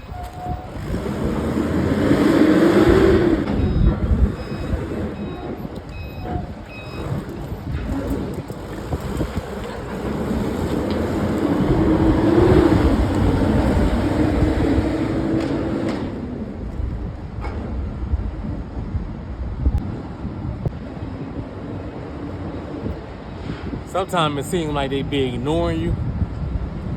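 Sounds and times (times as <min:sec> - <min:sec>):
heavy vehicle engine rumbling: 0:00.0 - 0:26.9.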